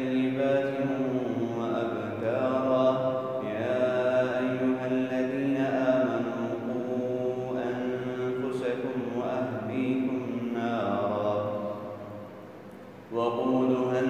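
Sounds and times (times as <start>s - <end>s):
man chanting melodically: 0.0s - 12.1s, 13.1s - 14.0s.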